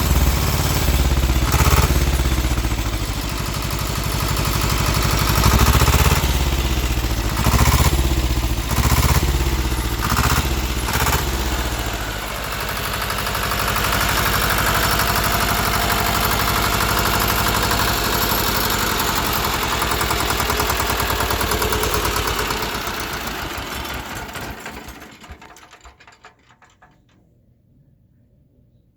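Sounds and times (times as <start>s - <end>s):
diesel engine running: 0.0s - 25.8s.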